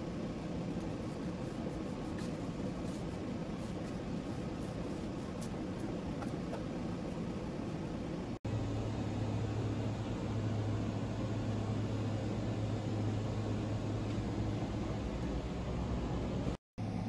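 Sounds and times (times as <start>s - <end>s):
room hum and hiss: 0.0s - 17.0s.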